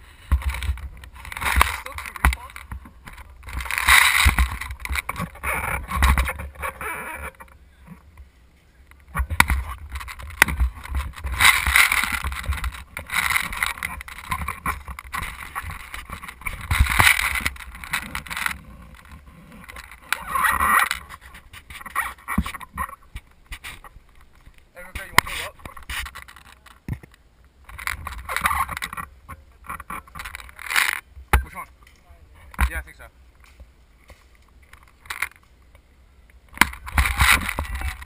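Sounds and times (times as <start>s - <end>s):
rushing noise on microphone: 0.0s - 8.3s, 8.9s - 31.7s, 36.5s - 38.0s
rustling handling noise: 0.0s - 35.7s.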